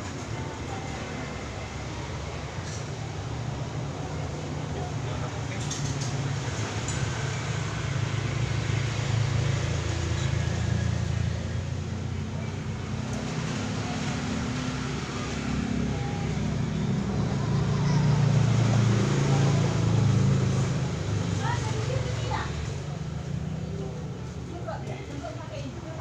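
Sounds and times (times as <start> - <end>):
traffic engine hum: 0.0 - 26.0.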